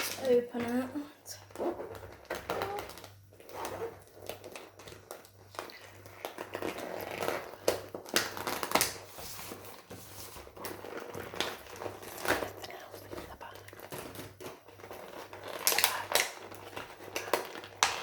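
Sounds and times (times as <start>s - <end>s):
plastic packaging crinkling: 1.4s - 18.0s.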